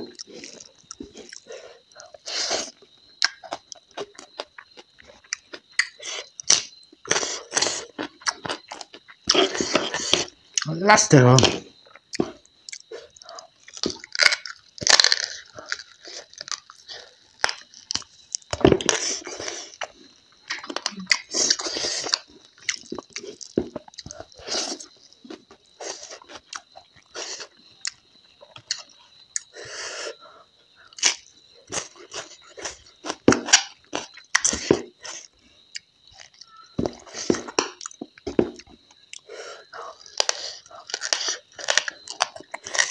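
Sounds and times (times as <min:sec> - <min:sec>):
wet chewing and crunching: 0:00.0 - 0:10.7, 0:11.4 - 0:42.9.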